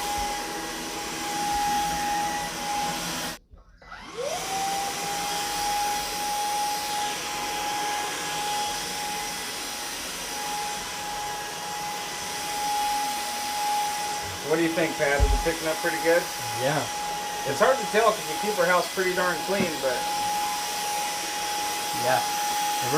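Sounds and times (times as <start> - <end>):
cordless vacuum whining: 0.0 - 22.9.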